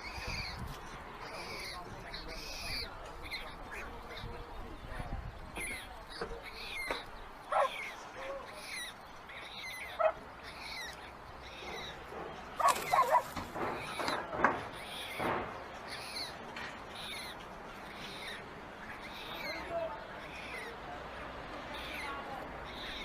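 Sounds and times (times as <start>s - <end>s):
birds calling in short notes: 0.0s - 20.8s.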